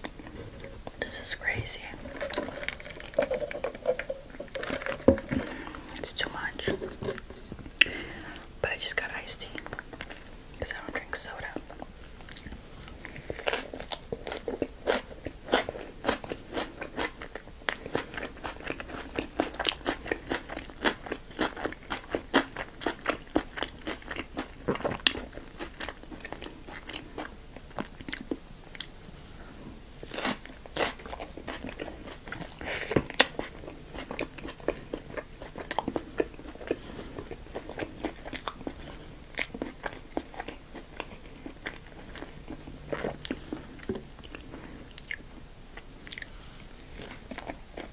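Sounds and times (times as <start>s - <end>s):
crunchy chewing: 0.0s - 7.4s, 11.4s - 29.0s, 30.0s - 47.9s.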